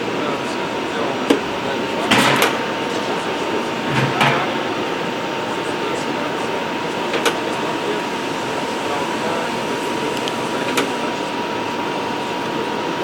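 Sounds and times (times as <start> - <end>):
industrial vacuum cleaner running: 0.0 - 13.0.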